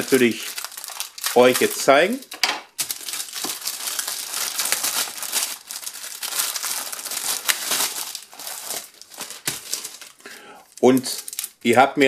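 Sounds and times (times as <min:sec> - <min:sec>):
plastic wrapper crinkling: 0:00.0 - 0:11.9.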